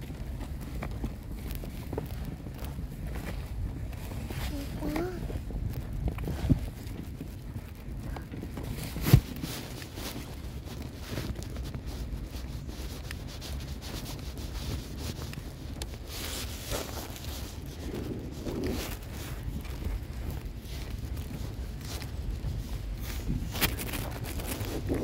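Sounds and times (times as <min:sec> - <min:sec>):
stroller wheels rumbling on pavement: 0:00.0 - 0:25.0
wind buffeting microphone: 0:00.0 - 0:25.0.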